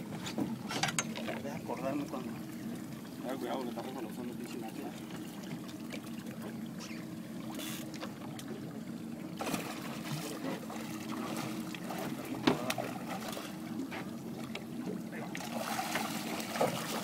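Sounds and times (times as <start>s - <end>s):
boat engine idling: 0.0s - 15.4s
water splashing against hull: 0.0s - 17.0s.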